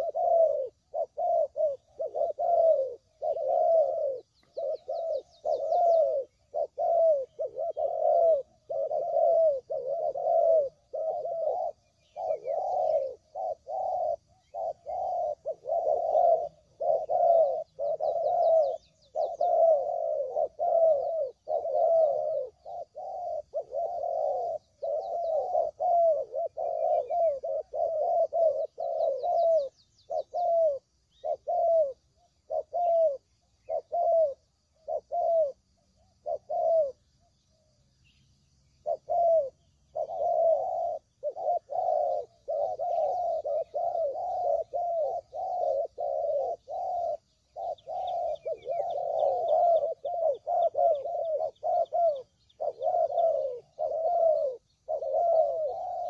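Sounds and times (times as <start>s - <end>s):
doves cooing: 0.0s - 37.8s, 38.5s - 56.0s
small birds chirping: 0.0s - 56.0s.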